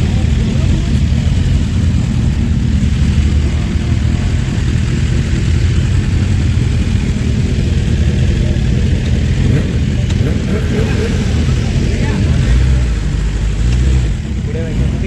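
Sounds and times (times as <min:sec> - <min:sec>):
motorcycle engines idling: 0:00.0 - 0:15.0.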